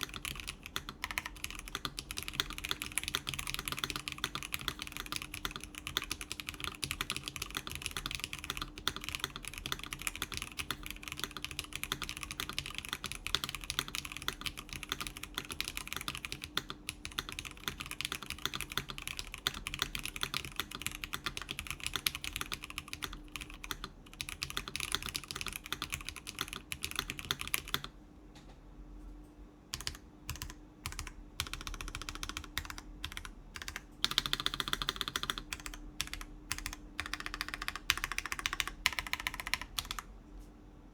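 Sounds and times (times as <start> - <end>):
fast typing on mechanical keyboard: 0.0 - 27.9, 29.7 - 40.1.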